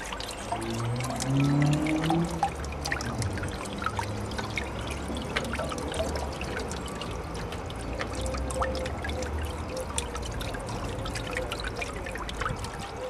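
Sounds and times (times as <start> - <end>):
low steady hum: 0.0 - 13.0
water drips and splashes: 0.0 - 13.0
water trickling and pouring: 0.0 - 13.0.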